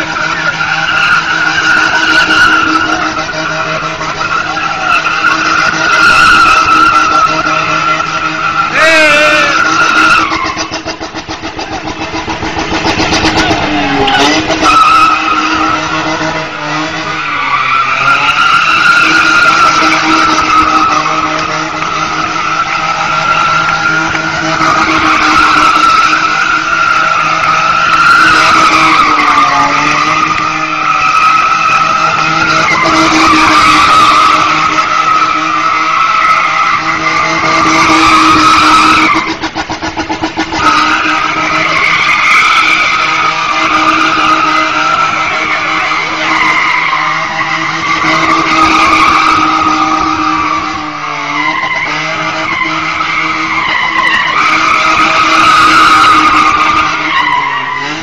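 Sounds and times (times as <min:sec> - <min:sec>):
car engine running hard: 0:00.0 - 0:58.0
car tyres squealing: 0:00.0 - 0:58.0.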